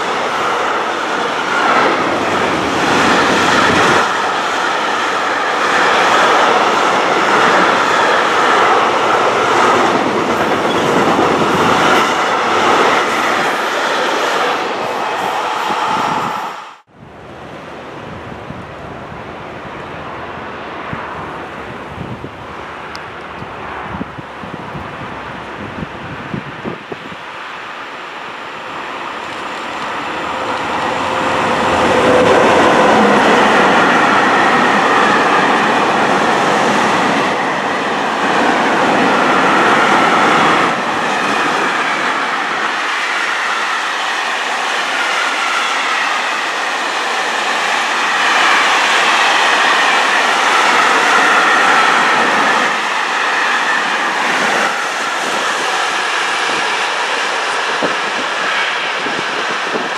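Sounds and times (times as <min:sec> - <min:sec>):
train wheels on rails: 0:00.0 - 0:16.9, 0:20.8 - 0:59.9.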